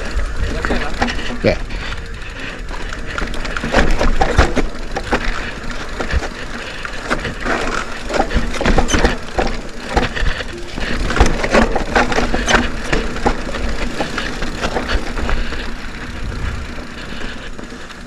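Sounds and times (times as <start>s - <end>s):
bike clattering over bumps: 0.0s - 18.0s
bike tyres crunching on gravel: 0.0s - 18.0s.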